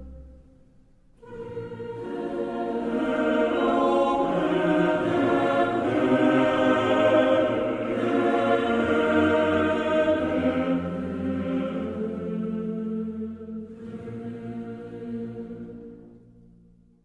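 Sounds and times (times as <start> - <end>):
ambient choir-like music: 0.0 - 16.8.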